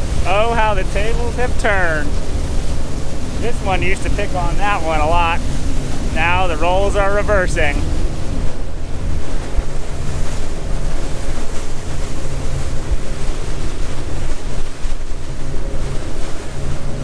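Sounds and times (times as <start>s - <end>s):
low engine hum: 0.0s - 17.0s
water rushing along a hull: 0.0s - 17.0s
wind buffeting the microphone: 0.0s - 17.0s.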